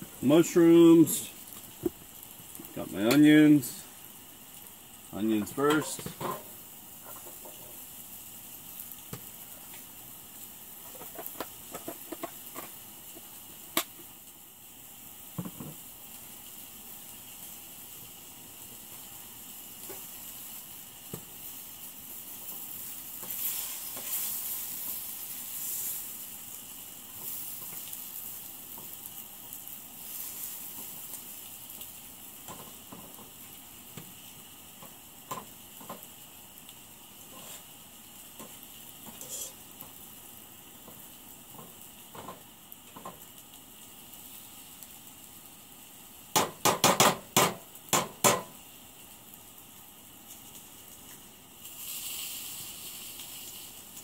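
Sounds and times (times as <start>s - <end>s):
onions sizzling in a frying pan: 0.0s - 54.0s.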